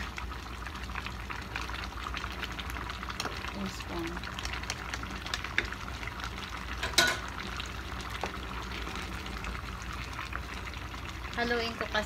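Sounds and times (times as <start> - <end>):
stew simmering and spattering: 0.0 - 11.7.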